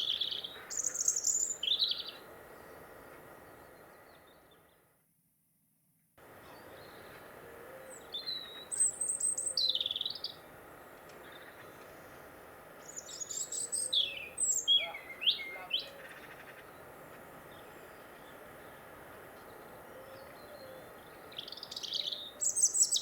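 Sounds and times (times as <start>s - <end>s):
songbird singing: 0.0s - 4.9s, 6.2s - 23.0s
faint outdoor background: 0.0s - 23.0s.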